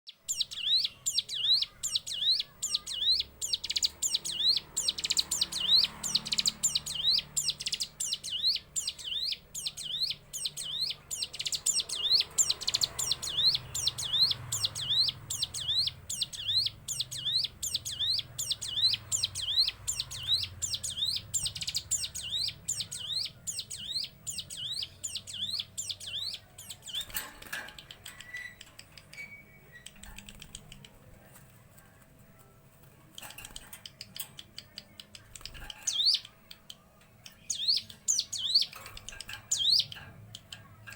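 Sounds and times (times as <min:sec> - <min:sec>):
bird singing high chirps: 0:00.1 - 0:30.9, 0:33.5 - 0:40.8.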